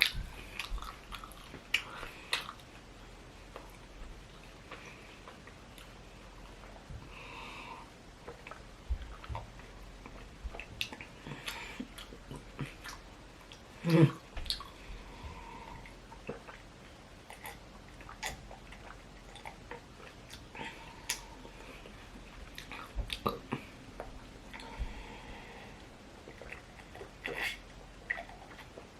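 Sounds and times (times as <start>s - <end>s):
person chewing: 0.0s - 7.5s, 8.2s - 28.9s.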